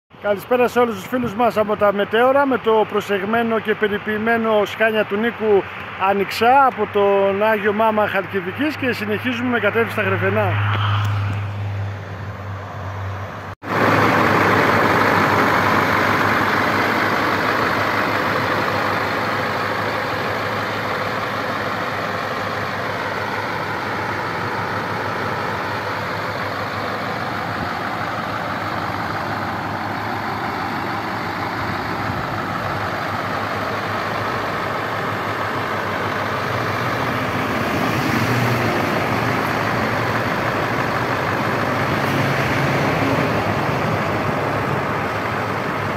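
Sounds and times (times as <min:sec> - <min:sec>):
truck diesel engine idling: 0:00.1 - 0:10.5, 0:13.4 - 0:45.9.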